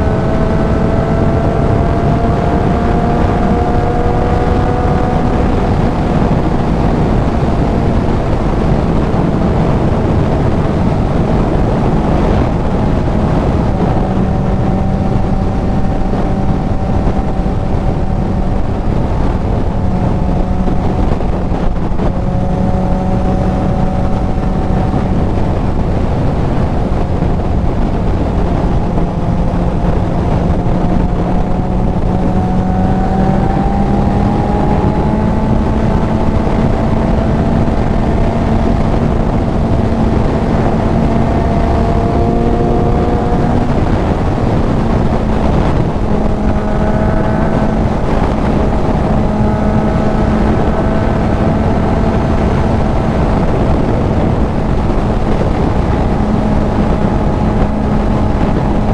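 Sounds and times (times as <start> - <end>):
motorcycle engine cruising: 0.0 - 58.9
wind rushing over microphone: 0.0 - 58.9.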